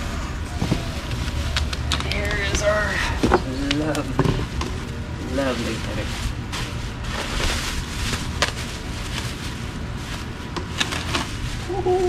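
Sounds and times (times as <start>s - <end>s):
cardboard and packing rustling: 0.0s - 12.0s
steady low rumble: 0.0s - 12.0s.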